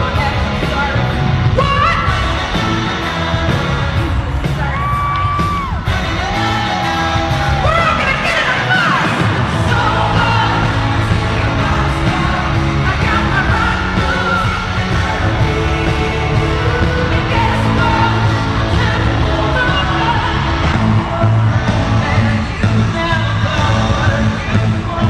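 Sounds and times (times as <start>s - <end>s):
crowd yelling: 0.0s - 25.0s
live pop-rock band with vocals: 0.0s - 25.0s.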